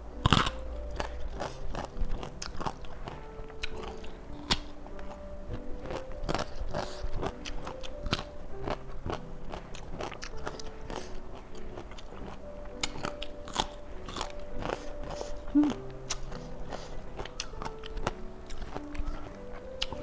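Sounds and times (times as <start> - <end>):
crunching and chewing vegetables: 0.0 - 20.0
soft piano music: 0.0 - 20.0.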